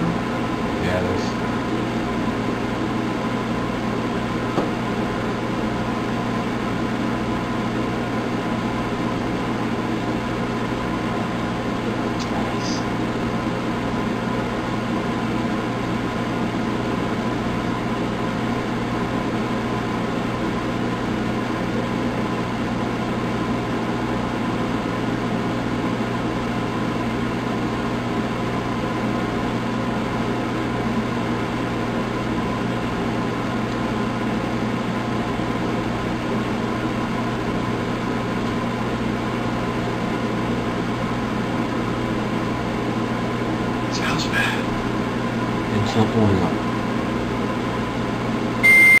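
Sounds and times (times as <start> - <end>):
microwave oven humming: 0.0 - 49.0.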